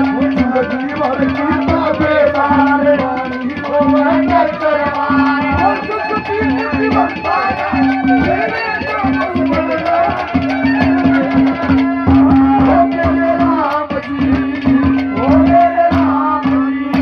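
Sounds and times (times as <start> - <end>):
hand drum beating quickly: 0.0 - 17.0
held note: 0.0 - 17.0.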